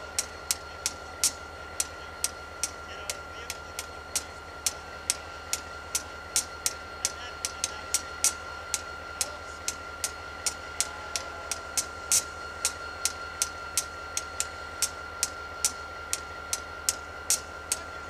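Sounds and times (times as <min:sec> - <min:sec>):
diesel train idling rumble: 0:00.0 - 0:18.0
sharp irregular clicks: 0:00.2 - 0:17.9.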